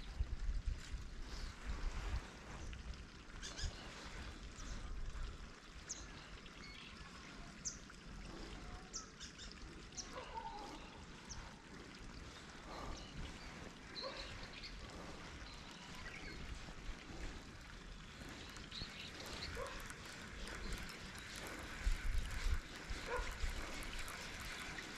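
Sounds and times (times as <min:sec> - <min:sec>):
trickling water: 0:00.0 - 0:24.9.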